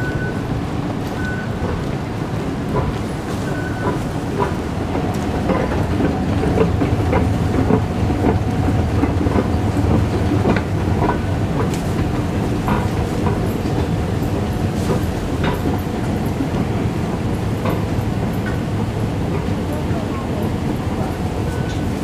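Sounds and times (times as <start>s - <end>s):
moving walkway rumbling: 0.0s - 22.0s
walkway pallets clacking: 0.0s - 22.0s.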